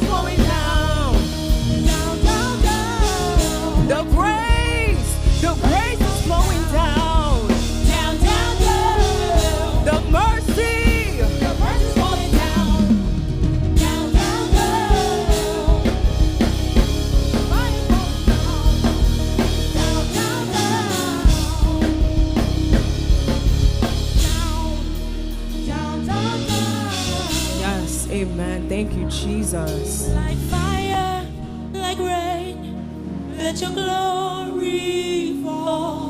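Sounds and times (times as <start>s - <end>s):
drum kit beat: 0.0s - 30.9s
gospel band playing: 0.0s - 36.0s.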